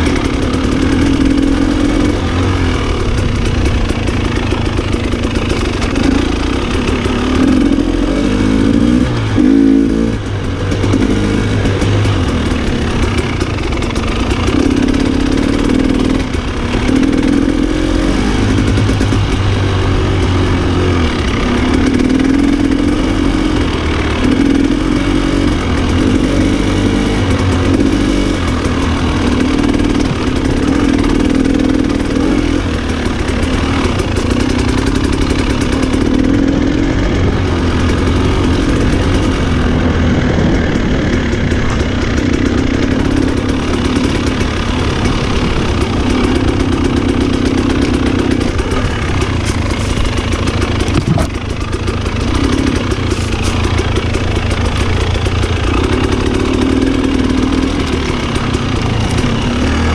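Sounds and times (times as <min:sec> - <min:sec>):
off-road motorcycle engine revving: 0:00.0 - 0:59.9.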